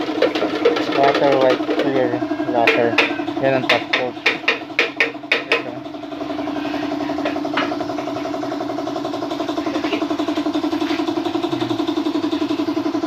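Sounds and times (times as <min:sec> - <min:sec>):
motor-driven machine humming: 0:00.0 - 0:13.0.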